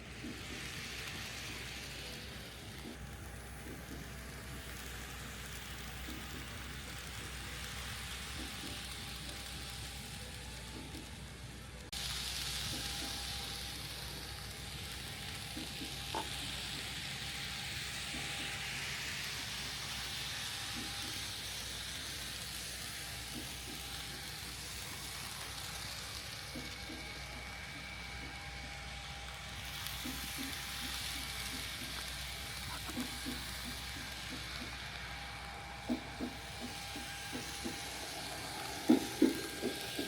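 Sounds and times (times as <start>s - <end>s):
model train hiss: 0.0s - 40.0s.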